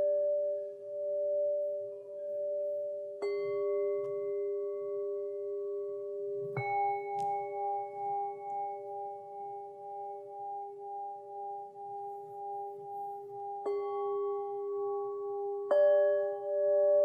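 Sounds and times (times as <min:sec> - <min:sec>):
higher wobbling bowl tone: 0:00.0 - 0:17.0
singing bowls ringing: 0:00.0 - 0:17.0.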